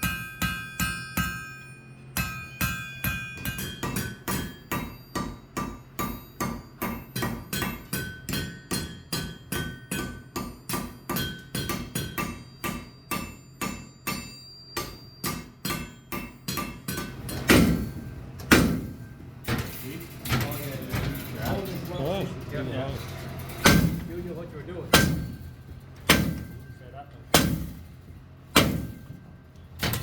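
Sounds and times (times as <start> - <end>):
hammer striking steel on anvil: 0.0 - 21.0, 23.6 - 30.0.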